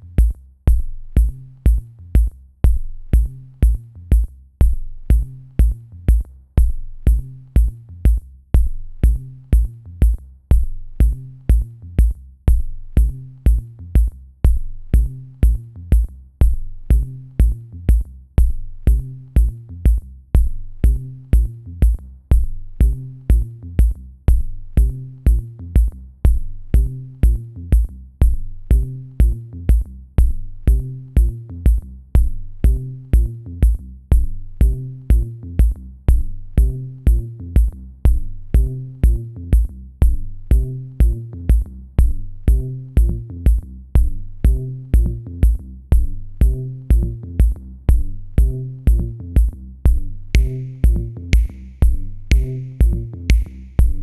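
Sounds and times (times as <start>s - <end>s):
music with steady beat: 0.0s - 54.0s
repeating low bass line: 0.0s - 54.0s.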